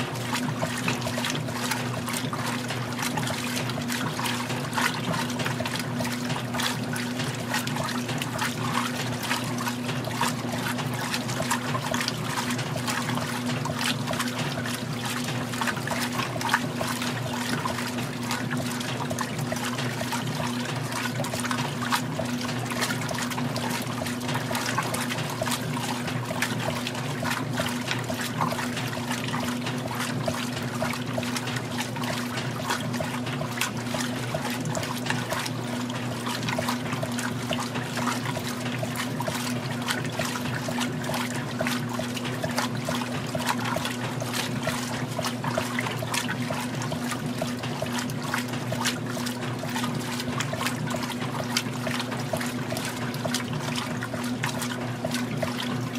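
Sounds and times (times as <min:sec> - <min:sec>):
steady motor hum: 0:00.0 - 0:55.9
water sloshing in washing machine: 0:00.0 - 0:55.9.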